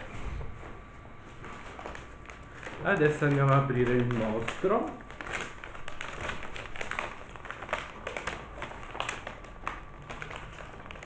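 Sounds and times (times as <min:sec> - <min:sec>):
paper bag rustling and crinkling: 0:01.3 - 0:11.0.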